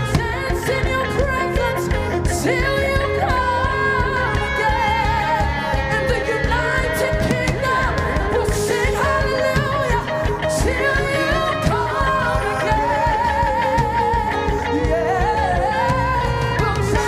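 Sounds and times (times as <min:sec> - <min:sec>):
bass and drums: 0:00.0 - 0:17.0
person singing with vibrato: 0:00.0 - 0:17.0.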